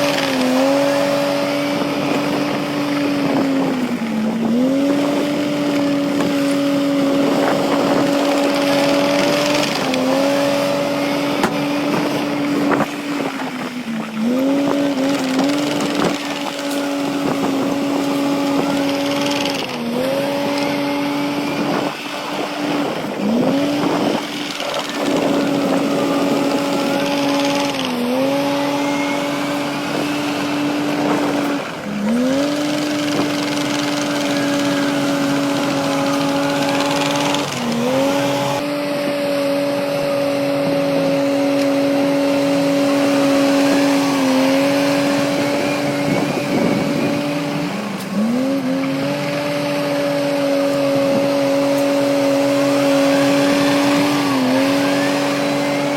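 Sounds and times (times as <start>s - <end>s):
diesel engine running at high revs: 0.0s - 55.9s.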